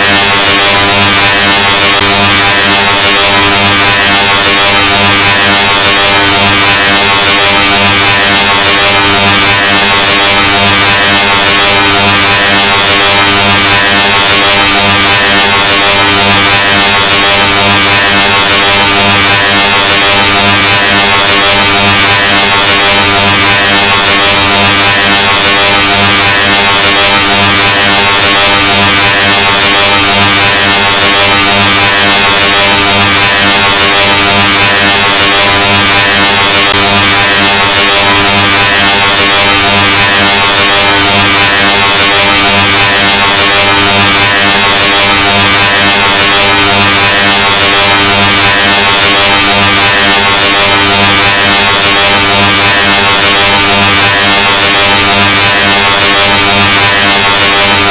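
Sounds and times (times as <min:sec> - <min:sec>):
distorted loud buzz: 0:00.0 - 0:57.9.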